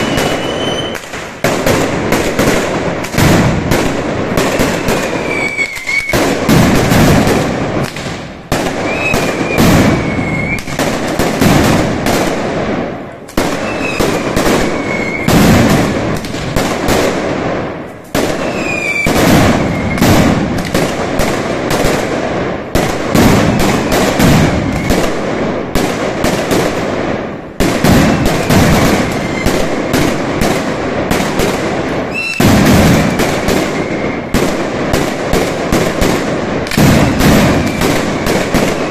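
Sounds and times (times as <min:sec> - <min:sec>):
firecrackers banging rapidly: 0:00.0 - 0:38.9.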